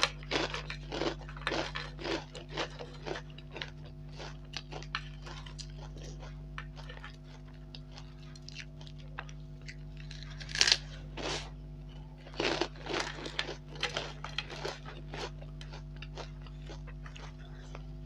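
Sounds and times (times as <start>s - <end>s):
crunchy bite: 0.0s - 11.6s, 12.3s - 17.4s
chewing crunches: 0.0s - 18.0s.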